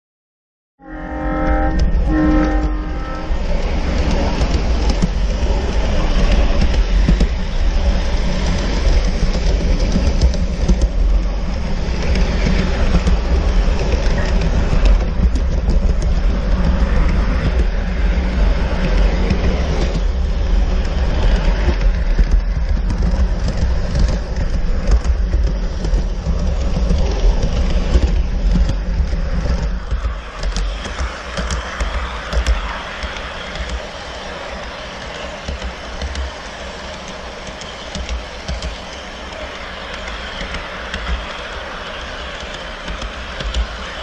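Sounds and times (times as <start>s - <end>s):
model train rumbling on track: 1.0s - 44.0s
wheels clicking on rails: 1.8s - 44.0s.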